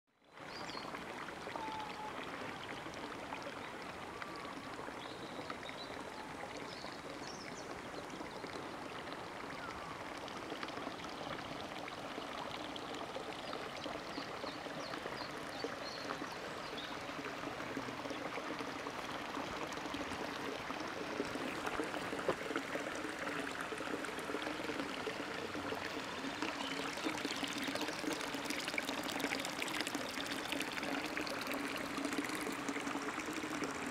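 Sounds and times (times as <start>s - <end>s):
stream water rushing: 0.5s - 33.9s.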